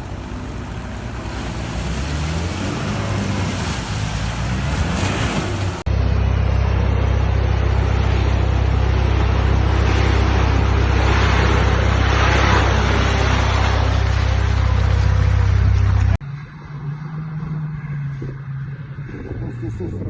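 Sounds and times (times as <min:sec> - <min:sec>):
rushing noise: 0:00.0 - 0:19.3
vehicle engine drone: 0:00.0 - 0:20.0.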